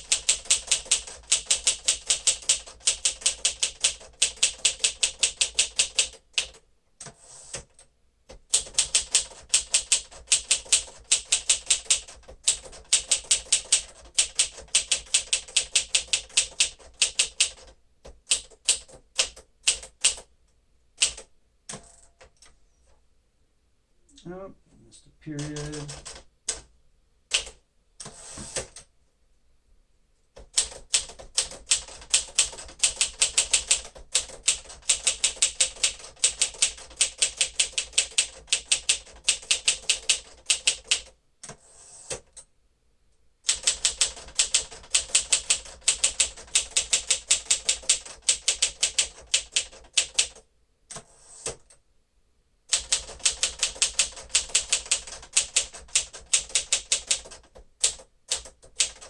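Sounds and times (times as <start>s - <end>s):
manual typewriter typing: 0.0s - 20.3s, 21.0s - 22.2s, 25.4s - 26.7s, 30.4s - 42.4s, 43.4s - 51.8s, 52.7s - 59.0s.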